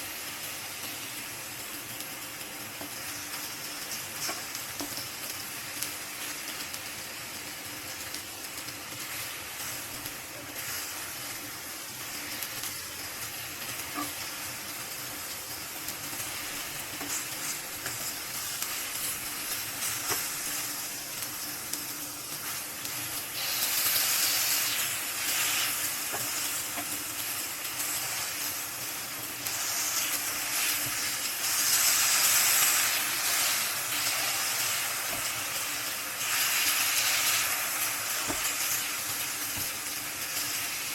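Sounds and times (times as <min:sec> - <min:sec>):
food sizzling in frying pan: 0:00.0 - 0:40.9.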